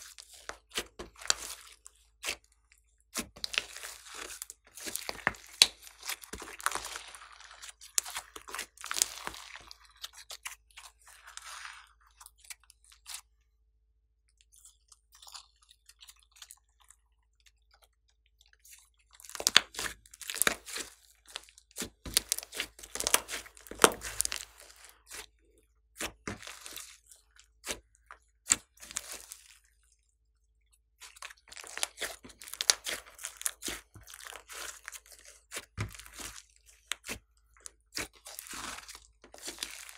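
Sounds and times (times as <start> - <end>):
hands squishing slime: 0.0 - 13.2, 18.6 - 29.8, 31.0 - 39.9.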